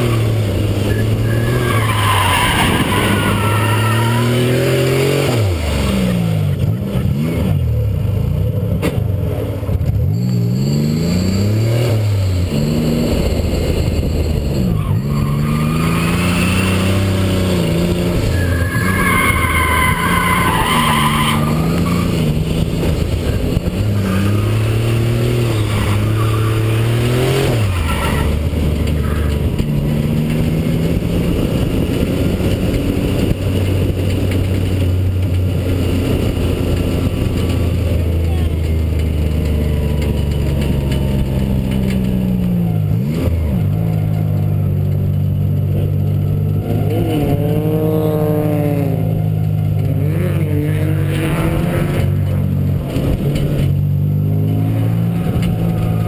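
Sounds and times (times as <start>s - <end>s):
tires squealing: 0.0s - 6.2s, 10.0s - 56.0s
car engine revving: 0.0s - 56.0s.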